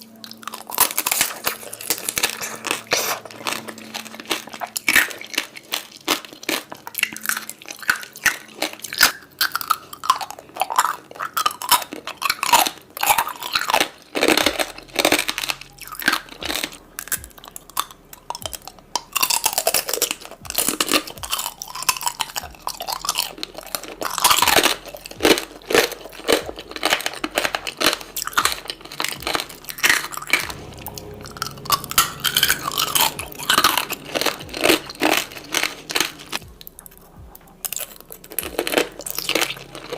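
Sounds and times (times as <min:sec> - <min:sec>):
person chewing crisp fruit: 0:00.0 - 0:39.9.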